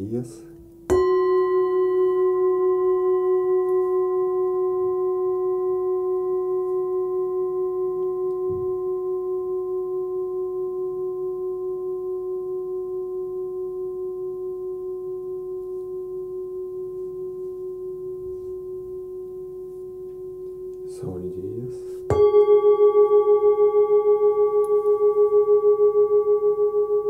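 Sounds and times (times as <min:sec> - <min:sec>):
singing bowl ringing: 0:00.0 - 0:27.0.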